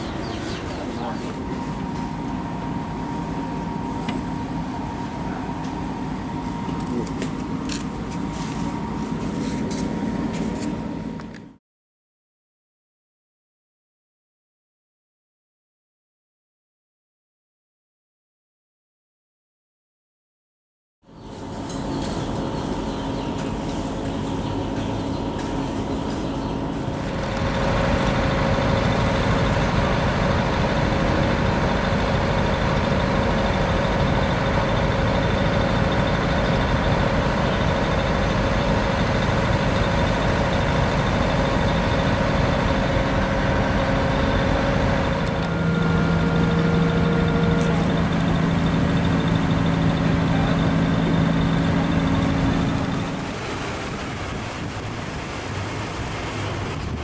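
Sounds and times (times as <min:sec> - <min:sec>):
engines running: 0:00.0 - 0:11.6, 0:21.1 - 0:57.0
steady hum: 0:00.0 - 0:11.6, 0:21.2 - 0:57.0.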